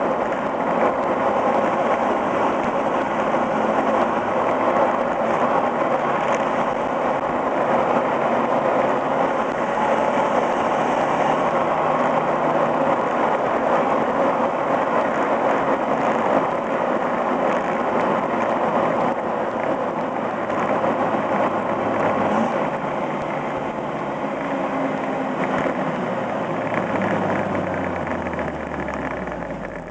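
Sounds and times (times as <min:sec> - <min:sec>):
car exhaust engine drone: 0:00.0 - 0:29.9
road and wind rush: 0:00.0 - 0:29.9.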